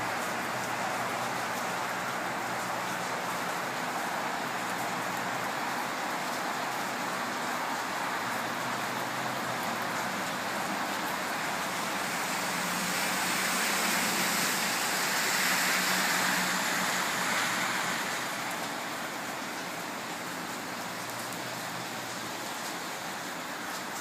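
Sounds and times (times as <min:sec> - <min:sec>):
car tyres hissing on wet road: 0:00.0 - 0:24.0
steady rain hiss: 0:00.0 - 0:24.0.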